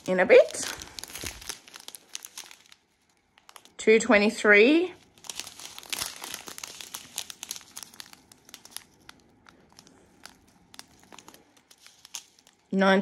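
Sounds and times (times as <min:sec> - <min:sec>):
plastic bags crinkling: 0:00.0 - 0:12.8.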